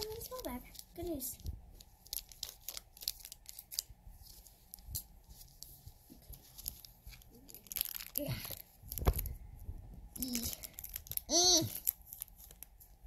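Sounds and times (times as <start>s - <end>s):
plastic bag crinkling and tearing: 0.0s - 9.4s, 10.2s - 13.0s.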